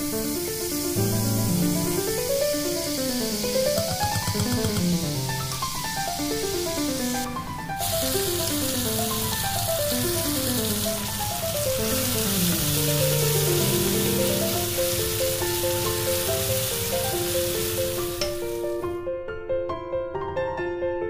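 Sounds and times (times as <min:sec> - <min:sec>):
butter foaming: 0:00.0 - 0:18.8
onions sizzling in a pan: 0:00.0 - 0:18.9
background music: 0:00.9 - 0:19.4.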